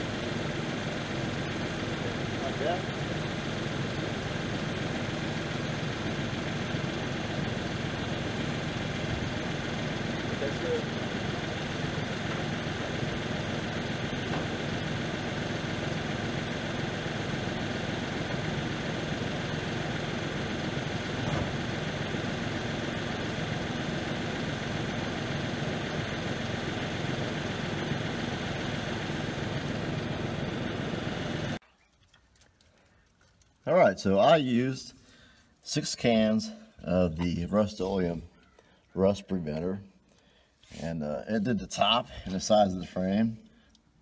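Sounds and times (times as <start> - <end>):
tractor engine idling: 0.0 - 44.0.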